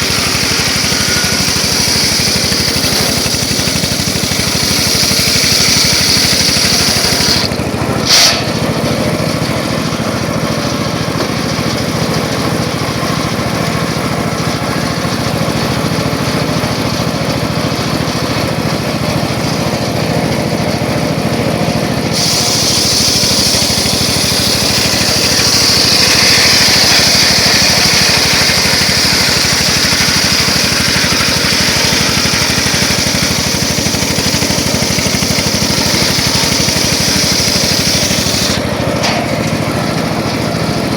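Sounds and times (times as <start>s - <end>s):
circular saw running: 0.0s - 40.9s.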